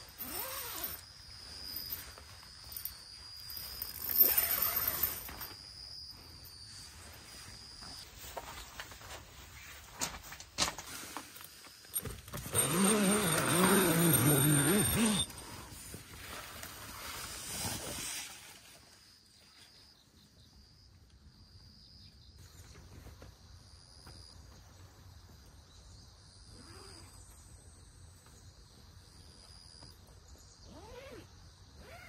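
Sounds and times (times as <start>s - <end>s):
insects trilling: 0.0s - 10.1s, 10.9s - 32.0s.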